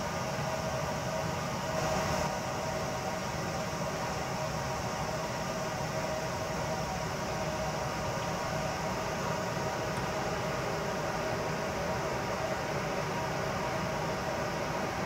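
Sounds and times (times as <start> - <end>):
outdoor background hiss and hum: 0.0 - 15.0.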